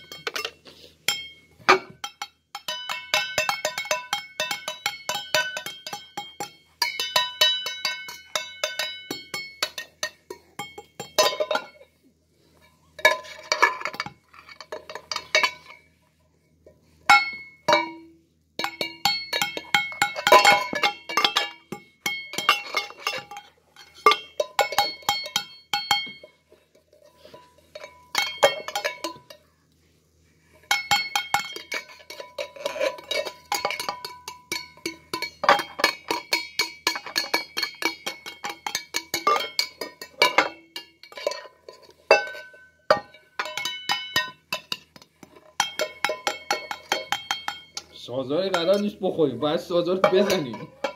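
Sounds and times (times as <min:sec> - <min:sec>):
spoons drumming on metal pots: 0:00.0 - 0:29.6, 0:30.4 - 0:50.9.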